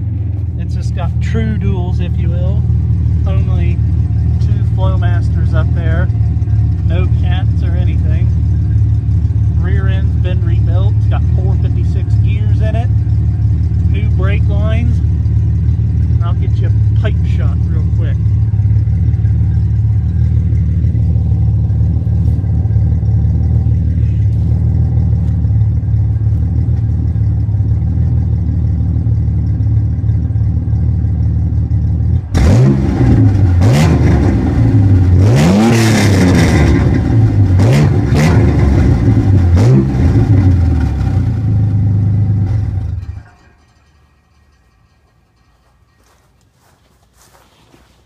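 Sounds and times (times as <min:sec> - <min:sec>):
engine exhaust idling and revving: 0:00.0 - 0:48.0.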